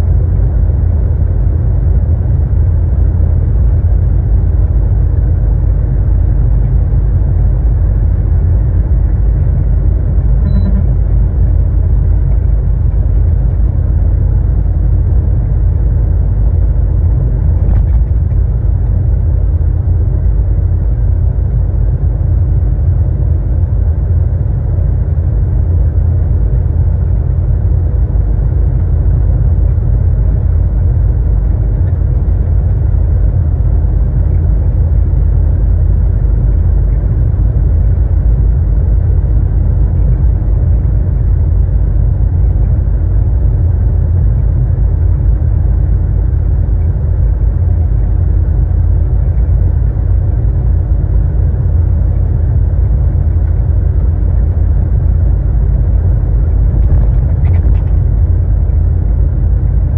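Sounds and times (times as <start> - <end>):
truck engine and road noise drone: 0.0 - 59.9.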